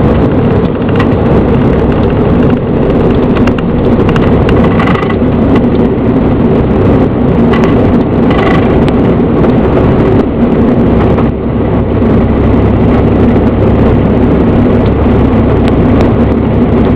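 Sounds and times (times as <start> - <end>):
propeller plane engine running: 0.0 - 16.9.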